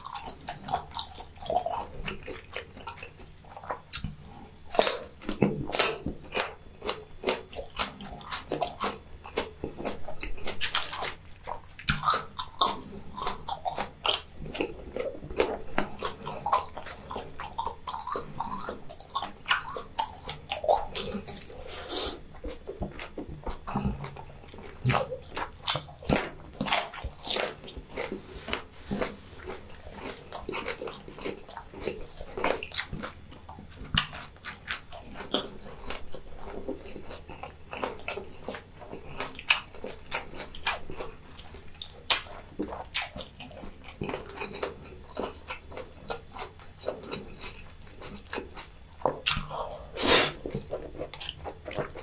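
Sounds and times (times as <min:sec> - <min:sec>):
person chewing and biting food: 0:00.0 - 0:52.0.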